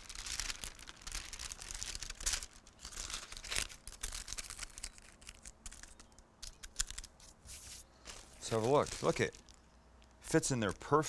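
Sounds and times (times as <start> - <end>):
wax paper crinkling: 0.0 - 9.7.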